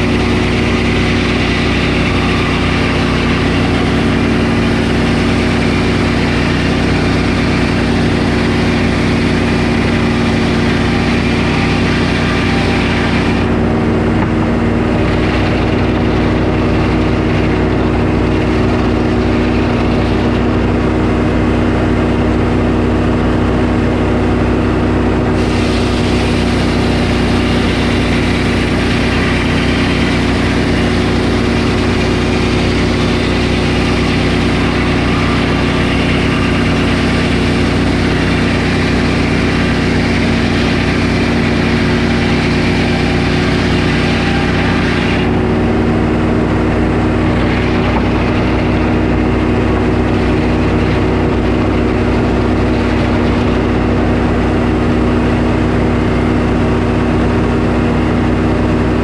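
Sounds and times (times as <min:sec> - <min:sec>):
saw blade cutting log: 0:00.0 - 0:21.8, 0:25.3 - 0:56.1
sawmill engine running: 0:00.0 - 0:59.0.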